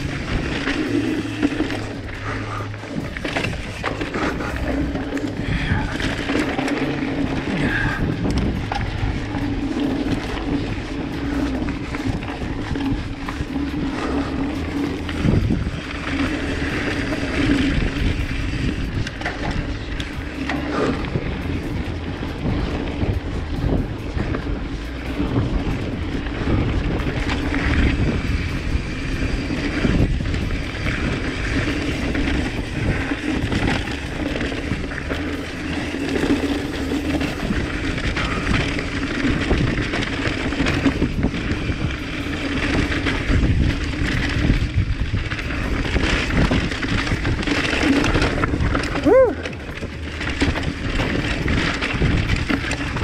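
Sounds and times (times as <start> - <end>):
bike rattling and knocking: 0.0 - 53.0
tyres rolling over dirt: 0.0 - 53.0
wind on microphone: 0.0 - 53.0.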